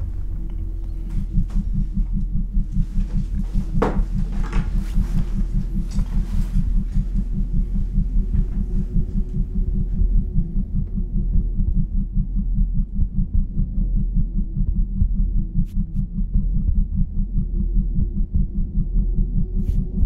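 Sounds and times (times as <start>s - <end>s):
low throbbing pulse: 0.0s - 20.0s
steady low drone: 0.0s - 20.0s.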